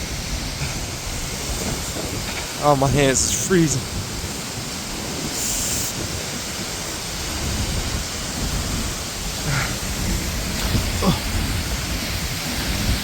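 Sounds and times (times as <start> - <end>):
waterfall rushing: 0.0 - 13.0
wind buffeting microphone: 0.0 - 13.0.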